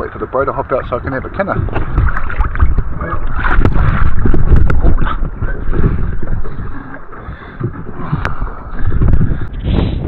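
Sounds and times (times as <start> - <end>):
water at sea surface: 0.0 - 10.0
wind buffeting microphone: 0.0 - 10.0.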